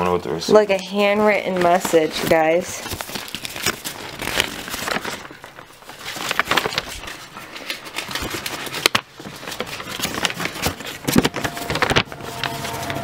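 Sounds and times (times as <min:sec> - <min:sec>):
paper rustling and crinkling: 0:00.9 - 0:13.0.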